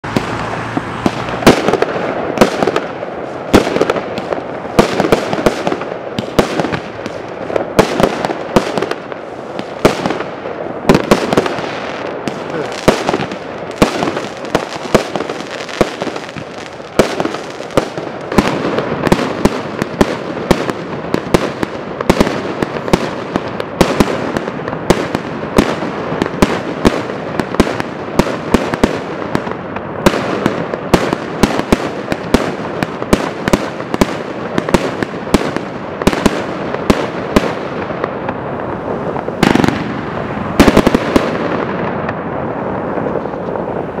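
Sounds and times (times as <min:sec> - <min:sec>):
fireworks bangs: 0:00.0 - 0:44.0
fireworks crackling: 0:00.0 - 0:44.0
loud fireworks blasts: 0:00.0 - 0:44.0.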